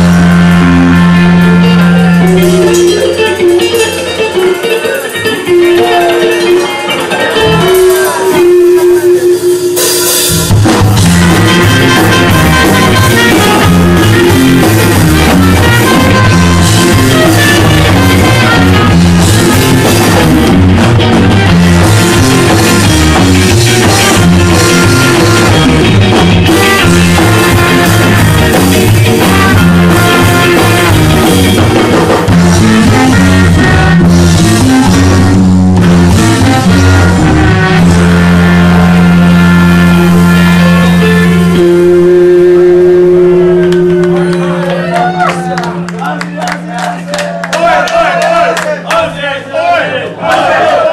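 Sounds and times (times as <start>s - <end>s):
live ska band playing: 0.0s - 49.3s.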